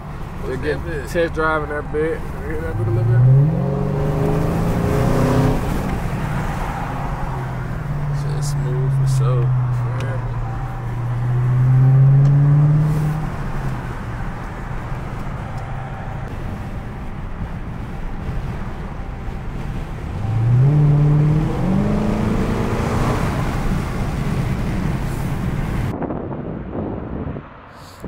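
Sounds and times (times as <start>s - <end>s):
car engine accelerating: 0.0s - 25.9s
road noise inside car: 0.0s - 28.0s.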